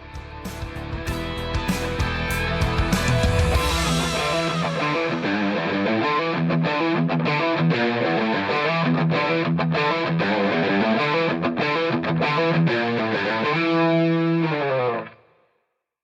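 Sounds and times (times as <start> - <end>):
distorted electric guitar music: 0.0 - 15.3.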